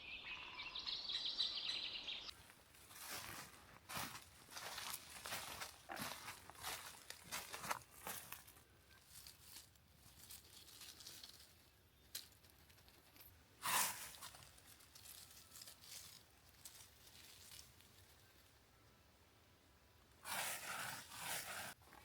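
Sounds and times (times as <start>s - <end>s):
rustling and crinkling: 2.3s - 18.6s, 20.2s - 22.0s.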